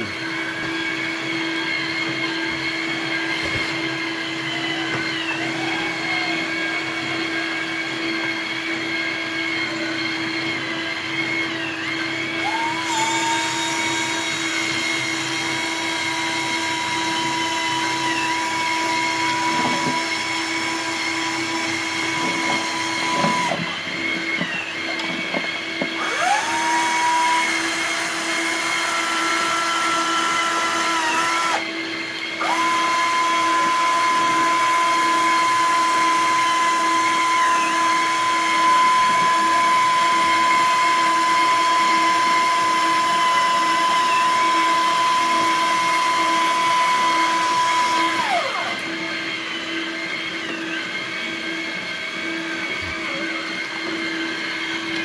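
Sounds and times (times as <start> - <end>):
motor whine spinning up: 0.0 - 55.0
small electric motors whining: 0.0 - 55.0.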